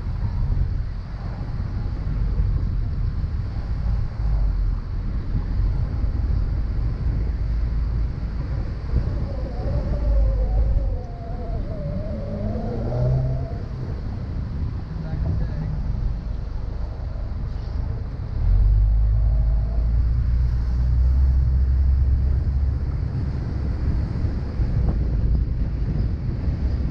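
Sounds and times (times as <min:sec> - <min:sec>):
road and engine noise: 0:00.0 - 0:26.9
wind buffeting microphone: 0:00.0 - 0:26.9.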